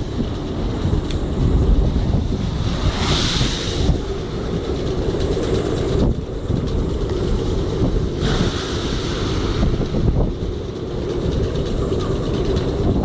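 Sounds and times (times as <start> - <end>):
hissing wind gust: 0.0 - 13.0
wind buffeting microphone: 0.0 - 13.0.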